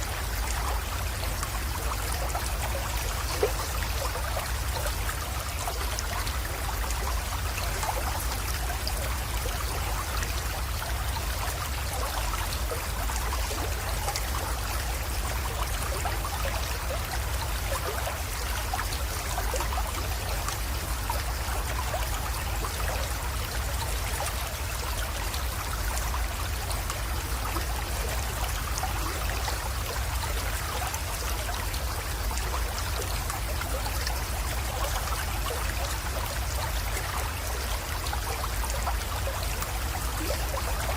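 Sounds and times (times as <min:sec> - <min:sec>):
creek water trickling: 0:00.0 - 0:40.9.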